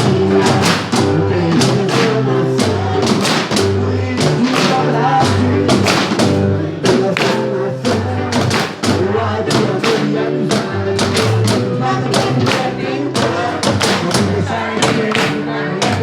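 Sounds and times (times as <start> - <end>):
drums from cans and buckets: 0.0 - 16.0
sustained pitched accompaniment: 0.0 - 16.0.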